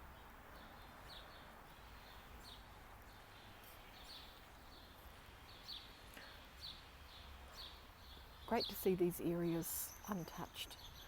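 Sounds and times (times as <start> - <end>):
faint bird chirping: 0.0 - 11.0
low steady hiss: 0.0 - 11.0.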